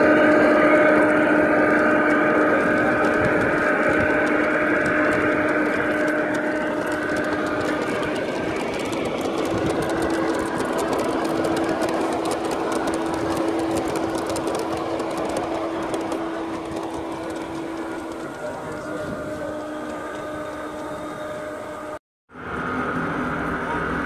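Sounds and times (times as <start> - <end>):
model train wheels clicking: 0.0 - 21.0
steady whine: 0.0 - 24.0.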